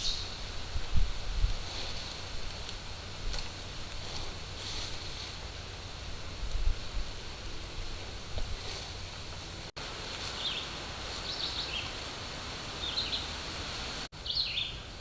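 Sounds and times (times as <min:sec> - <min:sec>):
steady hiss with low rumble: 0:00.0 - 0:15.0.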